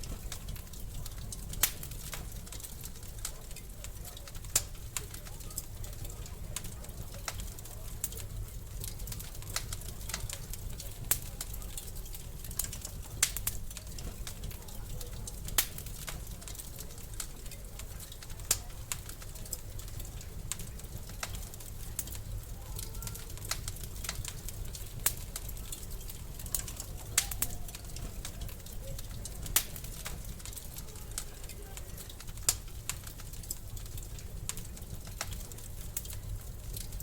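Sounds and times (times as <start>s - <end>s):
fire popping and snapping: 0.0s - 37.0s
wood fire crackling: 0.0s - 37.0s.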